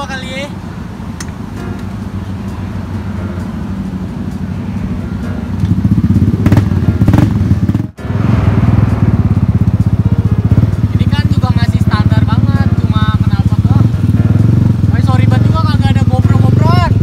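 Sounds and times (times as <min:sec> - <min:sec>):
scooter engine running: 0:03.0 - 0:17.0.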